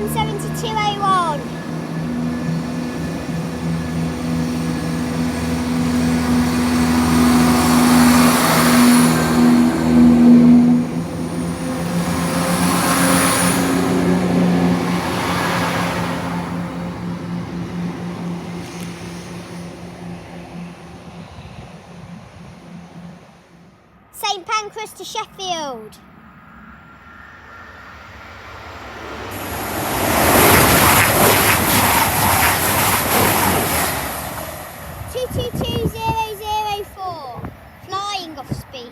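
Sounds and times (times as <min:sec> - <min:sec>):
diesel train engines droning: 0:00.0 - 0:38.9.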